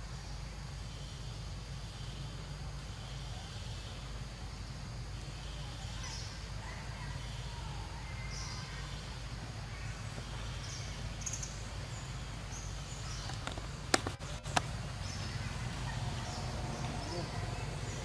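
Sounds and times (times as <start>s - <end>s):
low steady rumble: 0.0s - 18.0s
faint bird chirps: 0.1s - 18.0s.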